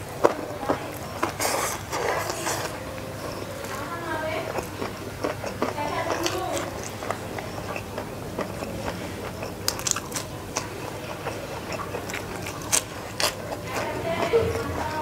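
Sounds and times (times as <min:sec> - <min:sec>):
chewing crunchy vegetables: 0:00.0 - 0:15.0.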